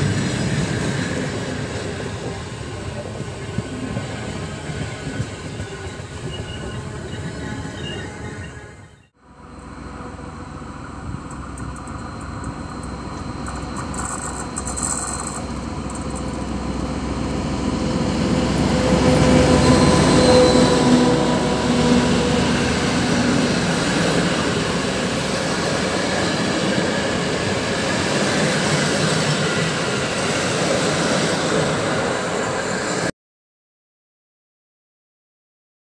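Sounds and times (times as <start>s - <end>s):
diesel locomotive engine: 0.0s - 33.1s
train wheels rolling on rails: 0.0s - 33.1s.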